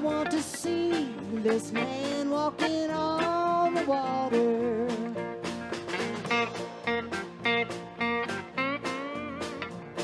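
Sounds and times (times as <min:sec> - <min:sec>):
bass line: 0:00.0 - 0:10.0
plucked guitar notes: 0:00.0 - 0:10.0
sliding lead guitar: 0:00.0 - 0:10.0.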